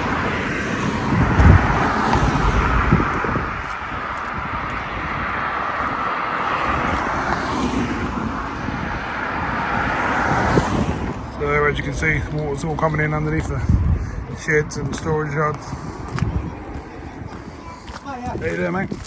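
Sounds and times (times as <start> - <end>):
cars passing with tyre hiss: 0.0 - 18.6
deep traffic rumble: 0.0 - 19.0.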